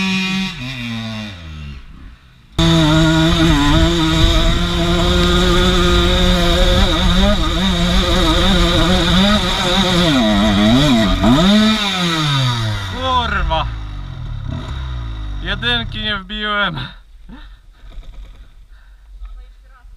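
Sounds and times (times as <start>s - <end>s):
motorcycle engine revving: 0.0s - 16.3s.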